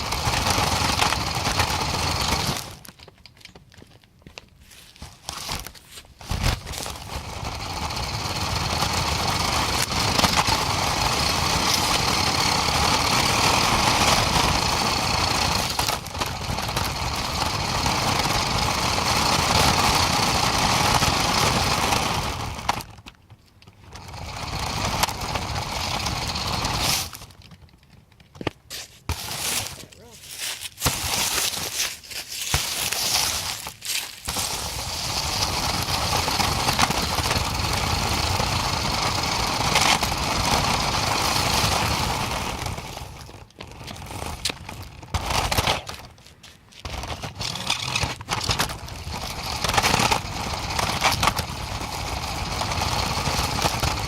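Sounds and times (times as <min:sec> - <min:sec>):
truck engine: 0:00.0 - 0:03.0, 0:05.4 - 0:23.1, 0:23.7 - 0:27.4, 0:29.0 - 0:46.2, 0:46.8 - 0:54.0.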